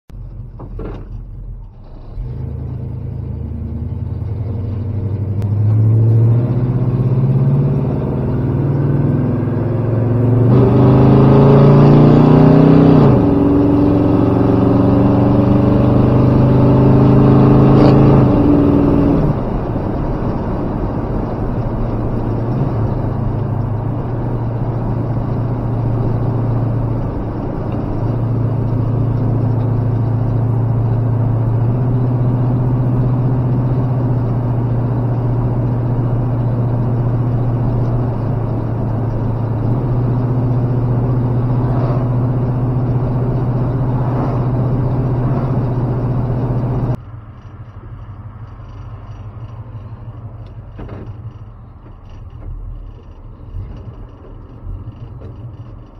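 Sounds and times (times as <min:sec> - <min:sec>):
pickup truck engine droning: 0:00.1 - 0:55.9.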